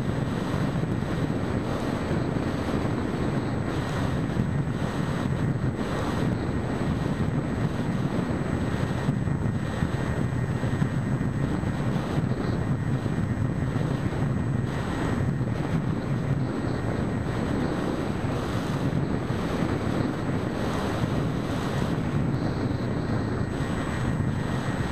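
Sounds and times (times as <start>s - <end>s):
electric motor and propeller drone: 0.0s - 24.9s
wind rushing over microphone: 0.0s - 24.9s.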